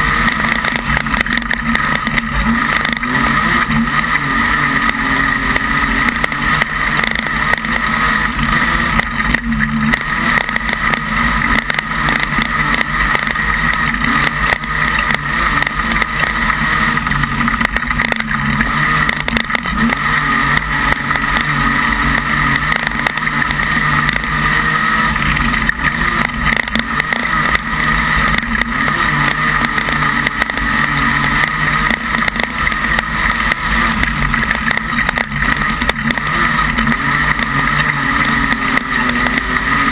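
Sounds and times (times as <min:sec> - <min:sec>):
race car engine drone: 0:00.0 - 0:39.9.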